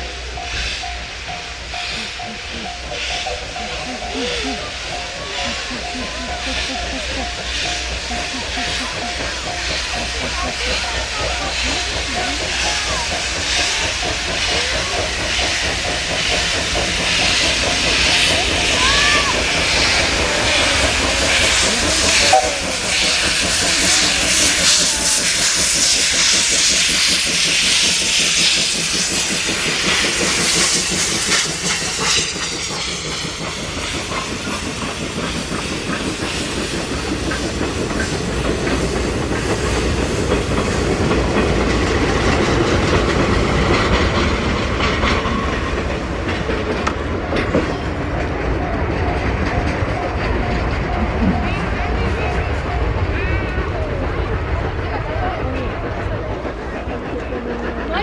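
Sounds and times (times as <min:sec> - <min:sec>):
coaches clattering over rail joints: 0:00.0 - 0:58.0
steam locomotive hissing: 0:00.0 - 0:58.0.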